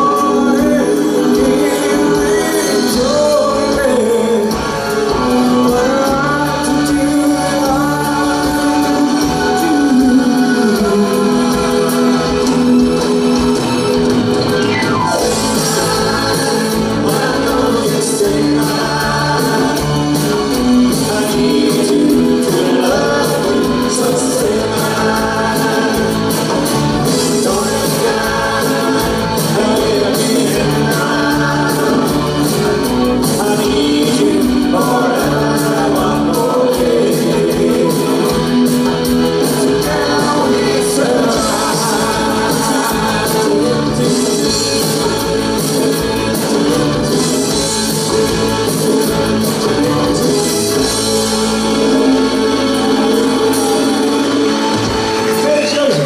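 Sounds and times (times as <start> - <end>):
male singer: 0.0 - 14.3, 15.1 - 56.0
drums: 0.0 - 56.0
guitars: 0.0 - 56.0
piano: 0.0 - 56.0.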